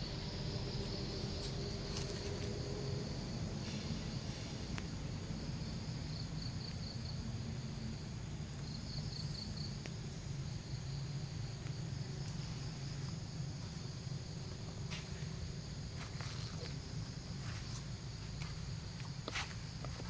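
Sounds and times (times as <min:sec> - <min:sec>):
insects chirping: 0:00.0 - 0:20.0
steady low rumble: 0:00.0 - 0:20.0.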